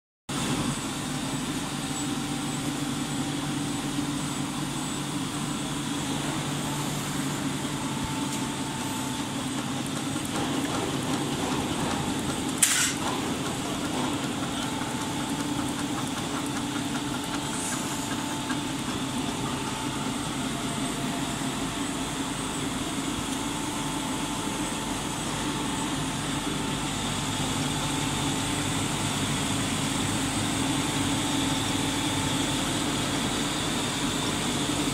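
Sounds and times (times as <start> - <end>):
printing machine humming and whining: 0.3 - 34.9.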